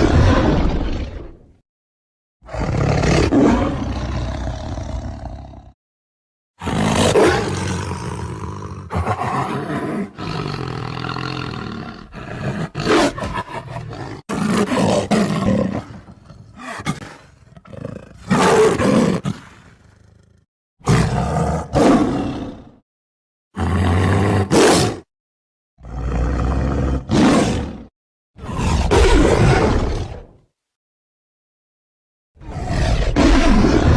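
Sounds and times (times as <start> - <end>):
tiger roaring and growling: 0.0 - 1.6, 2.4 - 5.8, 6.6 - 22.8, 23.6 - 25.1, 25.8 - 30.4, 32.4 - 33.9.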